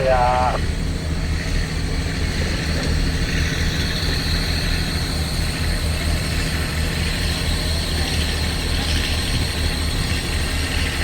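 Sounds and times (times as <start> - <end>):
diesel engine running: 0.0 - 11.0
faint steady whine: 0.0 - 11.0.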